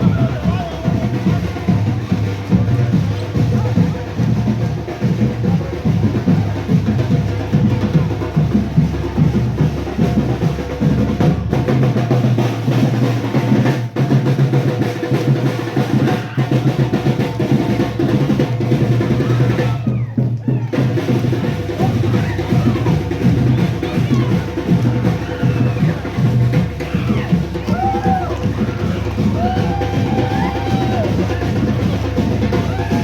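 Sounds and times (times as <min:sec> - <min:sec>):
bass drum beat: 0:00.0 - 0:33.0
snare drum rolls: 0:00.0 - 0:33.0.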